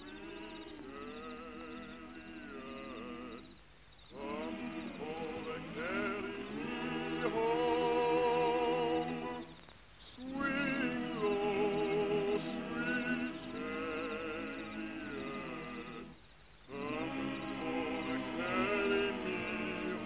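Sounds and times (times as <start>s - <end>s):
group singing a cappella: 0.0s - 9.6s, 10.2s - 20.0s.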